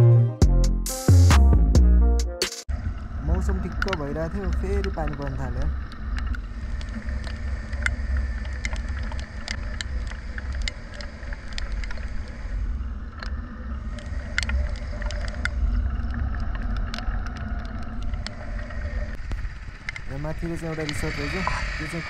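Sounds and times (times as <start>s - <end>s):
wind rumble on microphone: 2.7s - 22.0s
sharp ticks: 3.3s - 22.0s.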